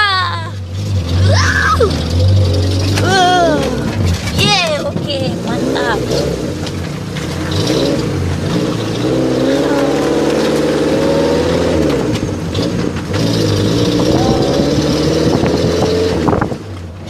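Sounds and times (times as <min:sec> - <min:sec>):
vehicle engine revving: 0:00.5 - 0:17.0.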